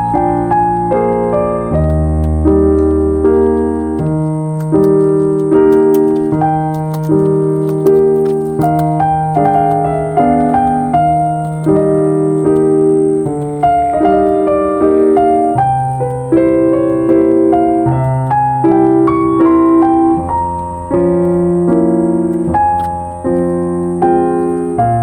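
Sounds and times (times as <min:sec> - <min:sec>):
slow piano chords: 0:00.0 - 0:25.0.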